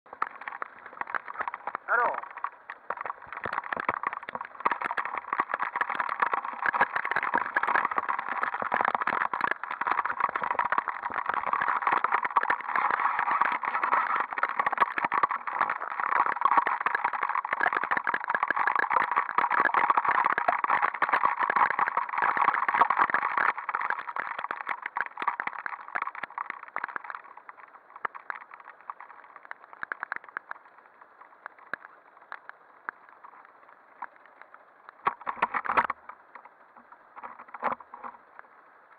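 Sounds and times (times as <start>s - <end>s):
scattered clicks: 0.1s - 38.9s.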